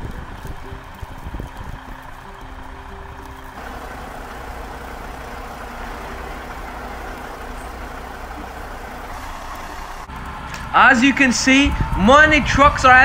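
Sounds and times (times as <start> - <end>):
truck engines rumbling: 0.0 - 13.0.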